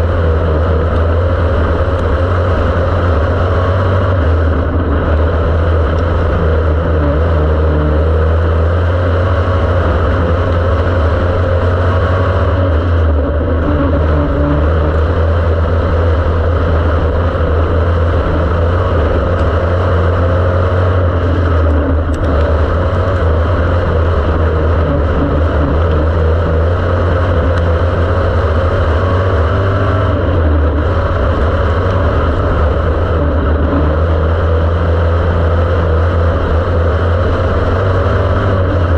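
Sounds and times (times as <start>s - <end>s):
race car engine deep drone: 0.0s - 38.9s.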